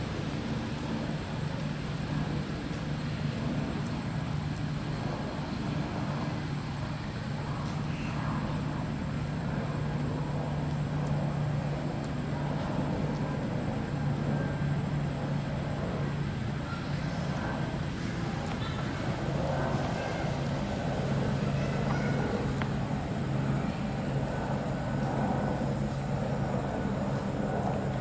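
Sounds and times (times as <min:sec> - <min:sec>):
low mechanical hum: 0:00.0 - 0:28.0
outdoor background noise: 0:00.0 - 0:28.0.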